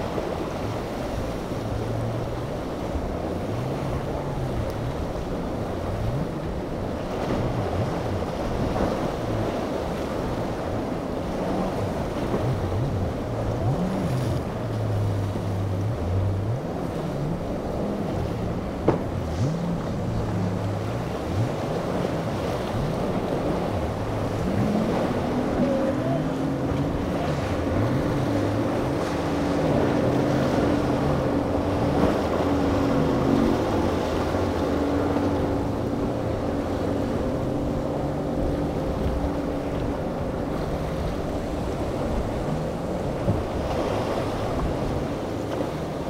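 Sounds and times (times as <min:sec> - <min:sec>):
outboard engine revving: 0:00.0 - 0:46.0
surf: 0:00.0 - 0:46.0
wind: 0:00.0 - 0:46.0.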